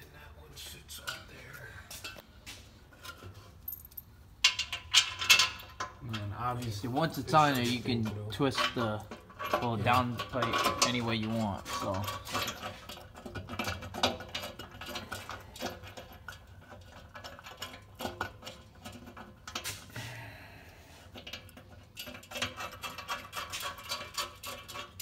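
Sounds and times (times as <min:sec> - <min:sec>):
small metal clinks and scrapes: 0:00.6 - 0:20.0, 0:20.9 - 0:25.0.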